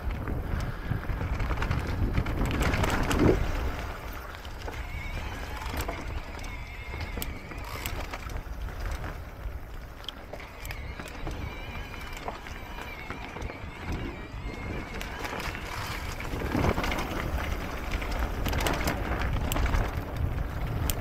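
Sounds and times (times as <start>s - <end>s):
bike clicks and rattles: 0.0s - 21.0s
rumble of wind and tyres: 0.0s - 21.0s.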